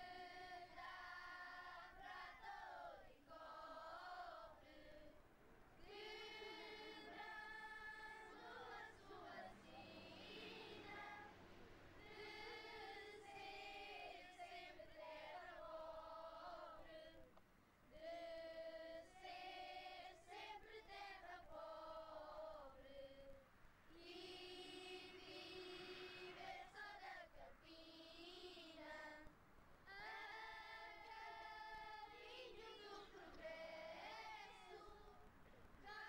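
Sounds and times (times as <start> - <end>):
children's choir singing unaccompanied: 0.0 - 36.0.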